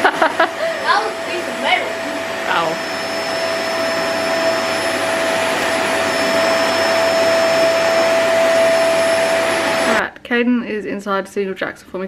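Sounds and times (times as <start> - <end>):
vacuum cleaner running on carpet: 0.0 - 10.1.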